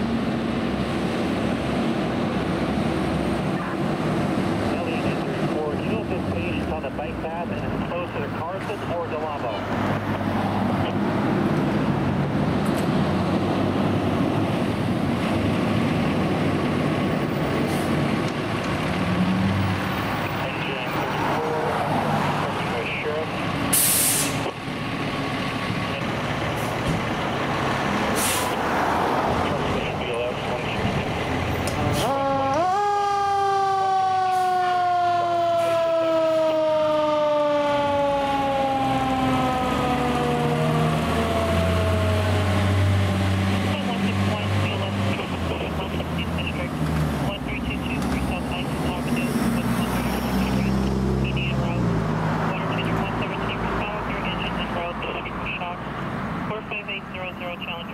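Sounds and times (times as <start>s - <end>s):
vehicle engine humming: 0.0s - 57.9s.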